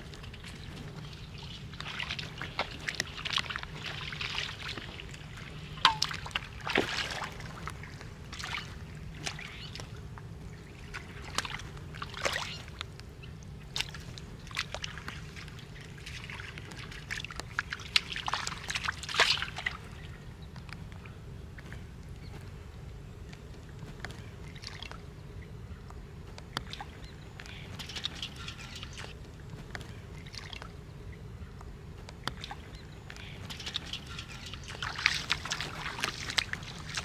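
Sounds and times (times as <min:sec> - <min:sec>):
water splashing and sloshing: 0:00.0 - 0:25.2, 0:26.3 - 0:31.2, 0:31.9 - 0:37.0
steady low hum: 0:00.0 - 0:37.0.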